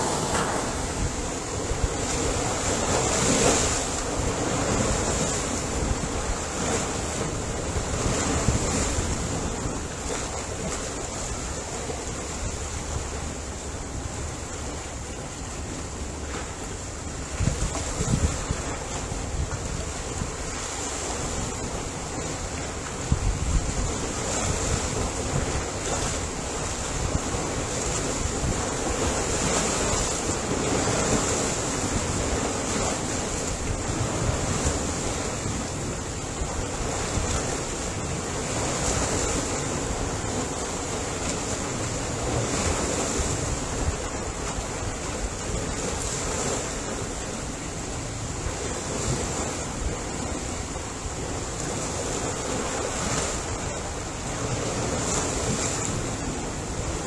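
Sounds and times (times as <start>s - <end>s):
ocean waves breaking: 0.0s - 57.0s
wind on the microphone: 0.0s - 57.0s.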